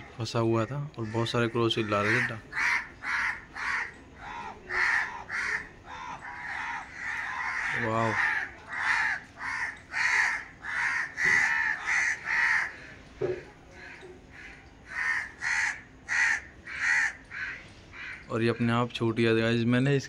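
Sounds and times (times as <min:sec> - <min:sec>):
crows cawing: 0:01.0 - 0:18.8.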